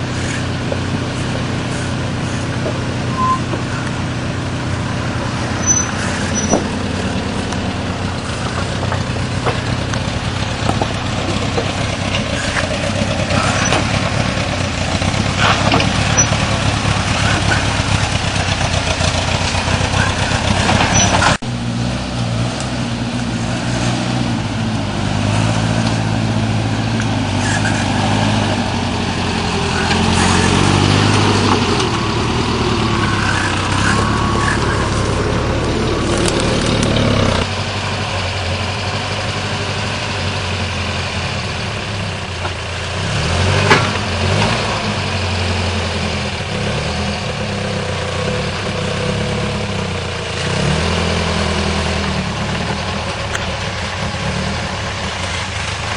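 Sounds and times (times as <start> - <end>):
off-road vehicle engine idling: 0.0 - 55.9.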